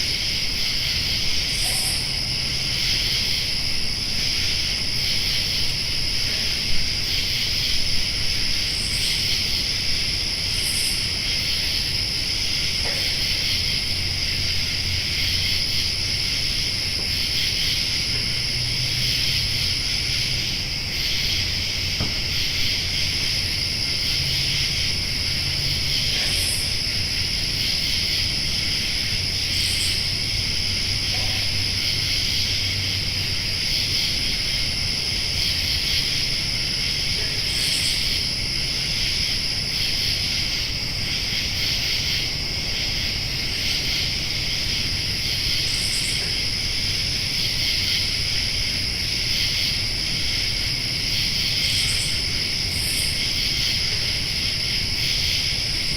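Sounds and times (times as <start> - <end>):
crickets trilling: 0.0 - 55.9
higher insect chirp: 0.0 - 55.9.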